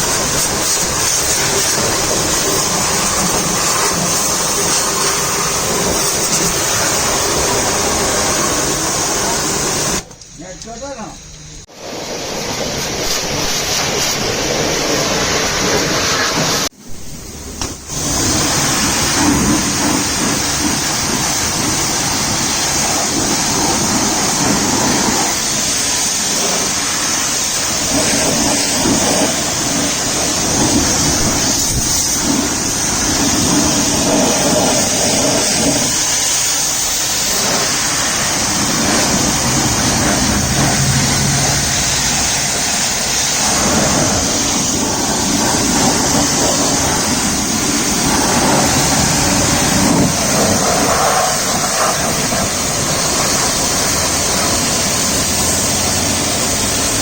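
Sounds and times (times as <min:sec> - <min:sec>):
water jet spraying: 0:00.0 - 0:57.0.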